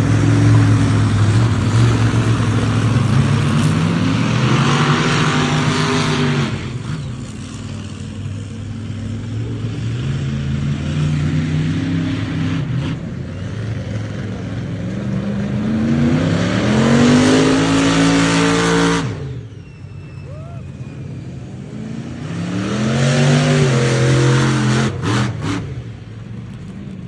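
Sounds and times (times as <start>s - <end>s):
monster truck engine revving: 0.0s - 26.6s.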